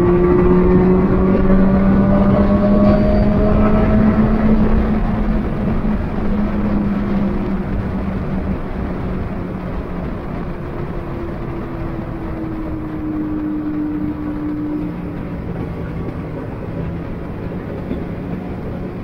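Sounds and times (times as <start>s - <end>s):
higher engine note: 0.0s - 19.0s
road and wind noise: 0.0s - 19.0s.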